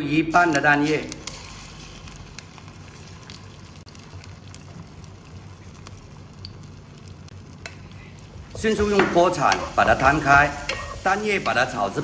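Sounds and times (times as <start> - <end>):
food sizzling in hot oil: 0.4 - 12.0.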